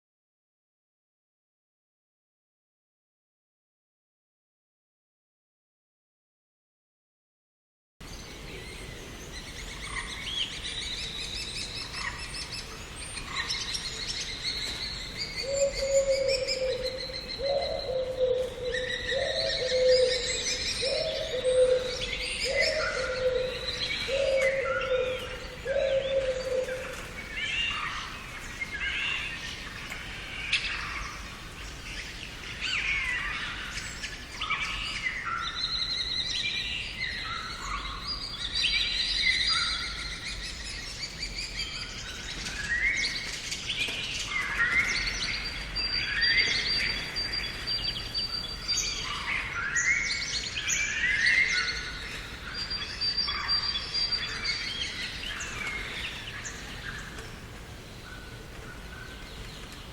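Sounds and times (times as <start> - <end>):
songbirds singing and chirping: 8.0 - 59.9.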